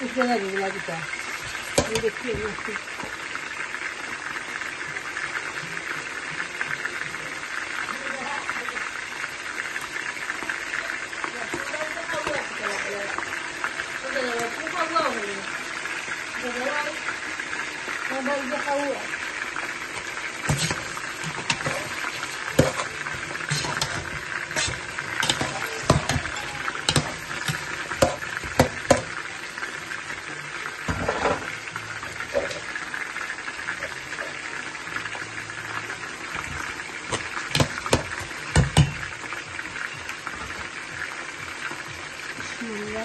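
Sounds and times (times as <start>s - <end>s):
onions sizzling in a pot: 0.0s - 43.0s.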